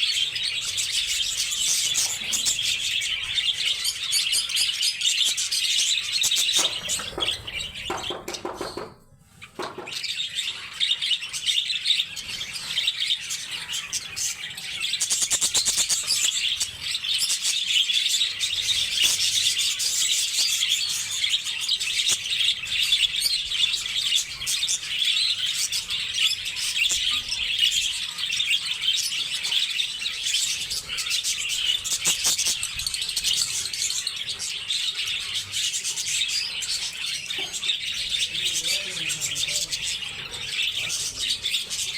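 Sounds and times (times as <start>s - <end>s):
lovebirds chirping and chattering: 0.0s - 41.9s.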